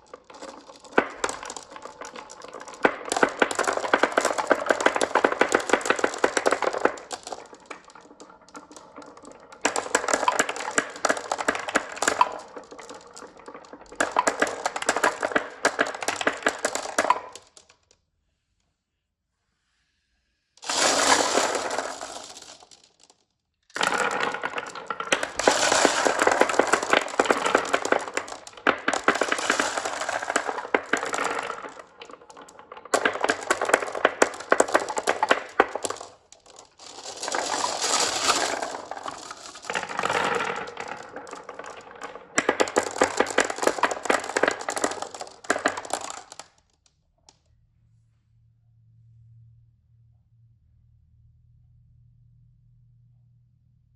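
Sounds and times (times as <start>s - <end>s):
marbles rattling down a track: 0.0s - 17.8s, 20.6s - 46.7s.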